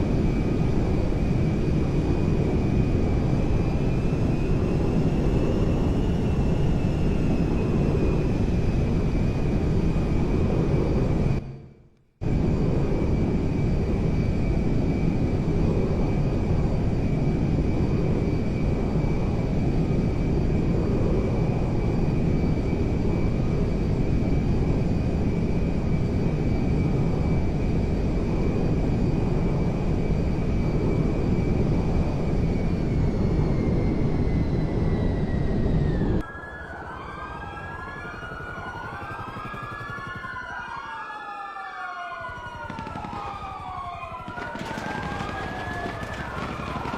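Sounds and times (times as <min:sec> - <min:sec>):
aircraft engine rumble and whine: 0:00.0 - 0:46.9.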